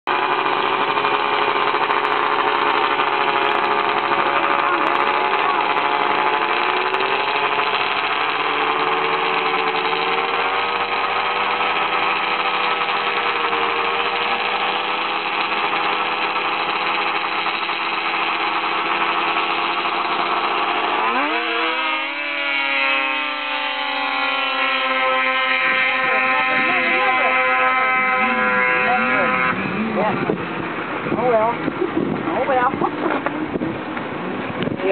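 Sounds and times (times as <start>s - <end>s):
snowmobile engines revving: 0.0s - 34.9s.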